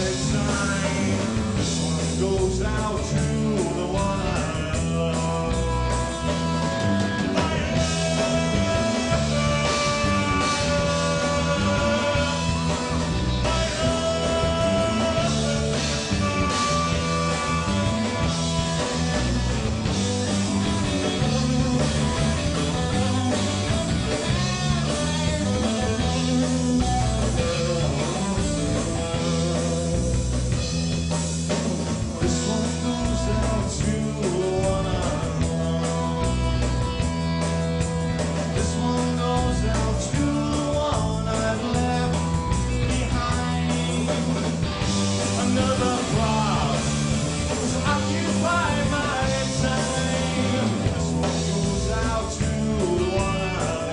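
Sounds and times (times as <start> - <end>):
bass line: 0.0 - 53.9
drums: 0.0 - 53.9
electric guitar: 0.0 - 53.9.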